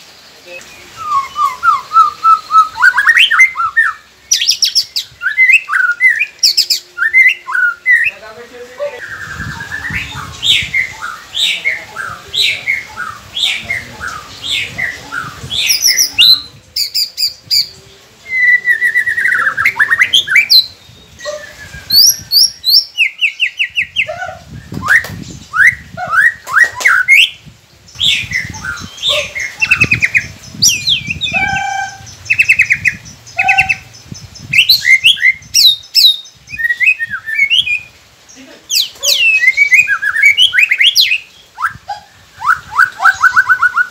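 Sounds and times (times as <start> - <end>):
bird singing whistled song: 0.5 - 8.2, 8.9 - 37.9, 38.7 - 41.8, 42.4 - 43.9.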